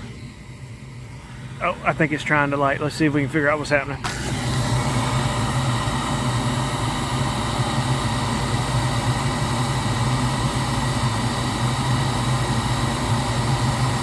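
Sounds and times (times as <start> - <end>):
heater motor humming: 0.0 - 14.0.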